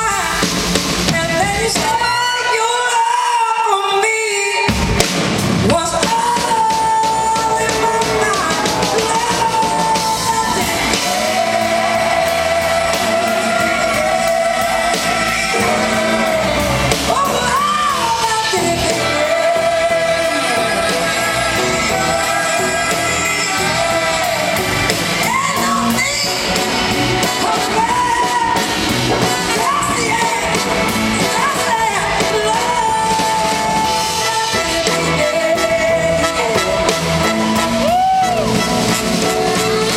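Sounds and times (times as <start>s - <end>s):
live band playing loudly: 0.0s - 39.9s
person singing: 5.6s - 39.9s.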